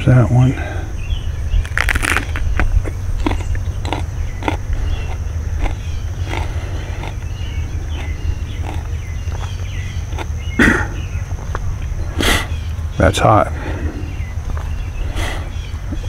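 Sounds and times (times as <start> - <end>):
insect chirring: 0.0 - 16.0
low rumble: 0.9 - 16.0.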